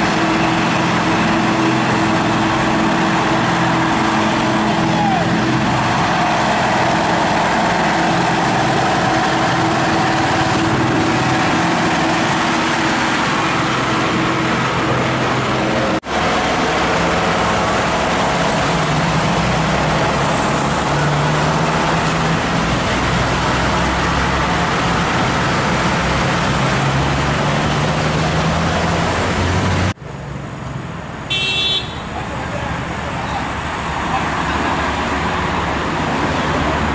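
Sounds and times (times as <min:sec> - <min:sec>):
diesel truck driving past: 0:00.0 - 0:36.9
road and traffic noise: 0:00.0 - 0:36.9.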